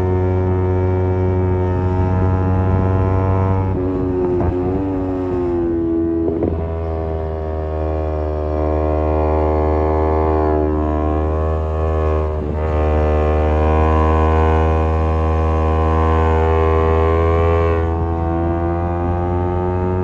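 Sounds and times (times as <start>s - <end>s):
motorcycle exhaust drone: 0.0s - 20.0s.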